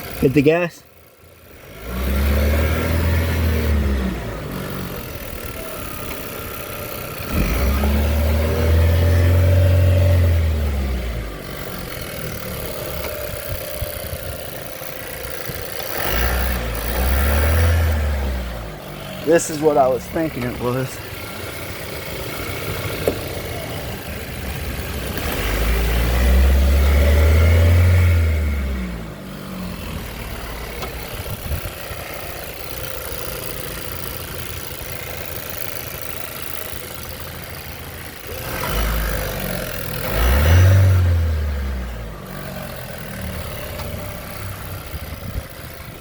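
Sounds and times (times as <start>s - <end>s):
car engine revving: 1.5s - 46.0s.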